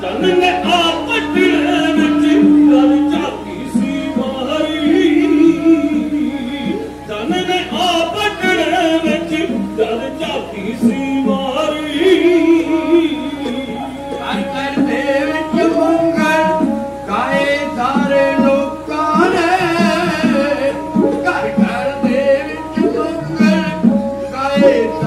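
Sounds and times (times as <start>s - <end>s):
bowed string instrument: 0.0s - 25.0s
hand drum beats: 0.0s - 25.0s
men singing a ballad: 0.0s - 25.0s.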